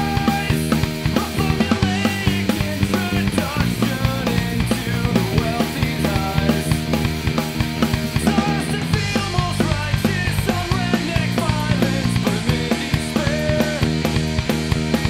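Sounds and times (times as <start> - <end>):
rock band playing: 0.0 - 15.0
steady drum beat: 0.0 - 15.0.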